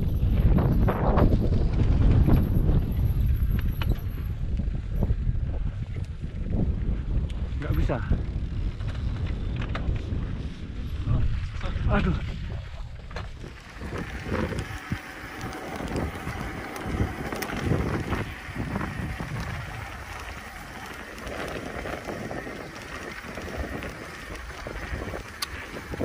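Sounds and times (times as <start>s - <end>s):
bike rattling on dirt trail: 0.0s - 26.0s
wind buffeting microphone: 0.0s - 26.0s.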